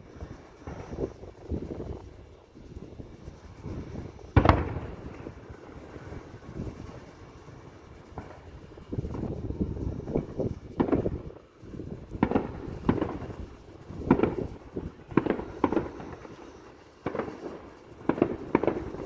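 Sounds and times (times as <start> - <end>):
fireworks bangs and booms: 0.0 - 19.0.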